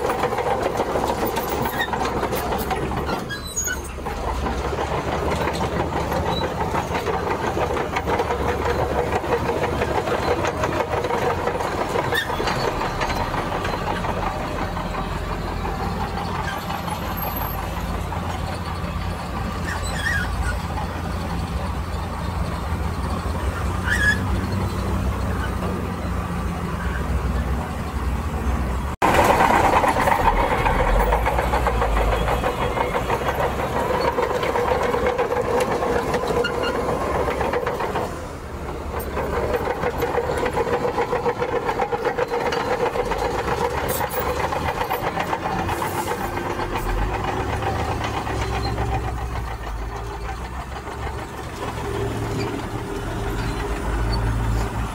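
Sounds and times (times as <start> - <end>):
heavy diesel machinery running: 0.0 - 54.9.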